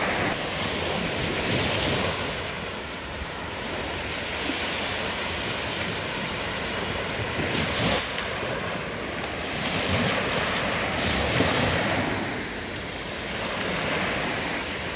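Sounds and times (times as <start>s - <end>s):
small waves breaking on sand: 0.0s - 14.9s
wind rumble on microphone: 0.0s - 14.9s.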